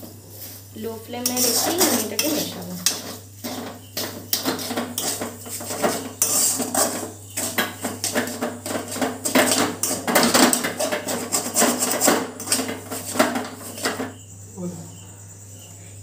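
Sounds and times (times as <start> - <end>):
steel spatula scraping a pan: 1.2 - 14.2.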